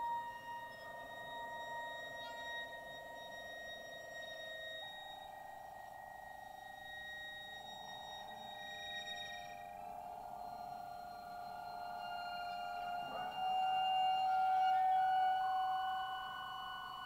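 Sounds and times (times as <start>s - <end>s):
electronic shimmering held tones: 0.0s - 17.0s.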